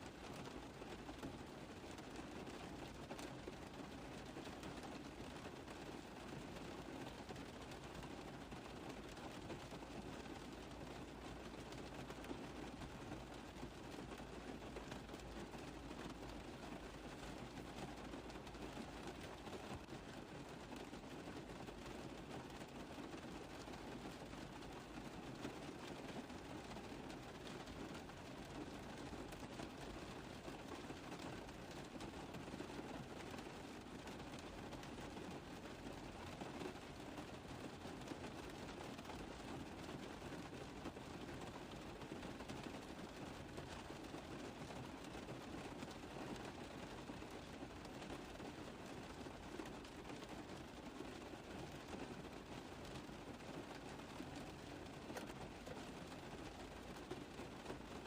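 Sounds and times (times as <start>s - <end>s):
rain tapping on a car roof: 0.0s - 58.0s.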